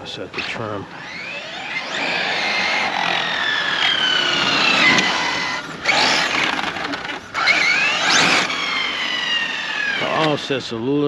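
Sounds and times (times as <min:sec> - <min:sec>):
electric motor whining: 0:00.0 - 0:10.9.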